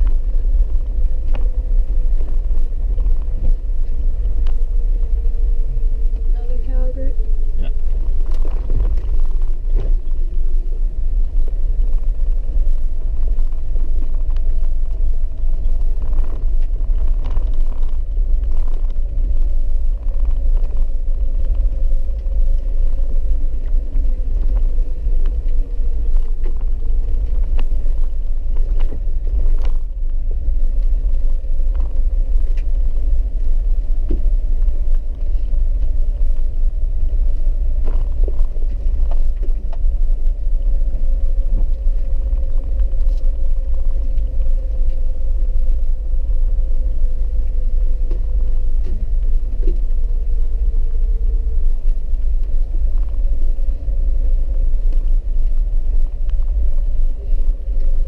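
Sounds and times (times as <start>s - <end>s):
engine drone: 0.0s - 58.0s
road noise rumble: 0.0s - 58.0s.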